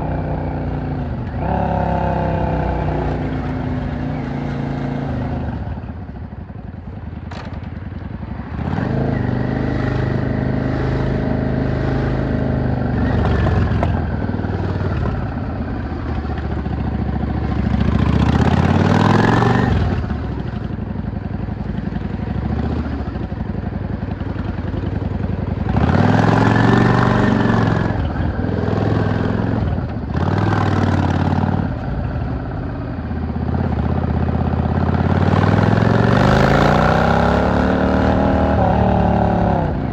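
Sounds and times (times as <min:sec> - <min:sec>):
motorcycle engine revving: 0:00.0 - 0:06.3, 0:07.1 - 0:39.9.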